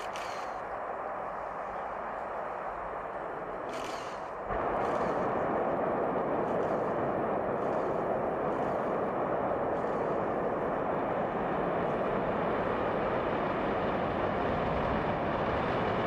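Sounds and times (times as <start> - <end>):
rocket engines roaring: 0.0 - 16.0.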